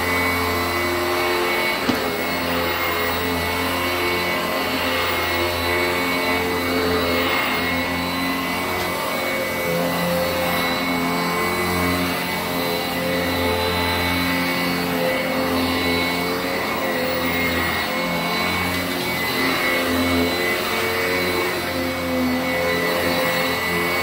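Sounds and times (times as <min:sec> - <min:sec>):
upright vacuum running on carpet: 0:00.0 - 0:24.0.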